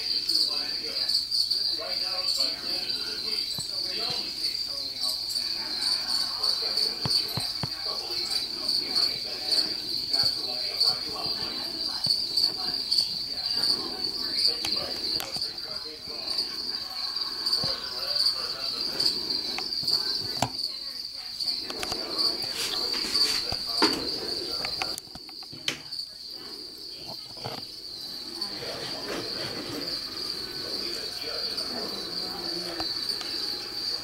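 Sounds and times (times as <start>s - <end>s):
high-pitched insect trill: 0.0s - 34.0s.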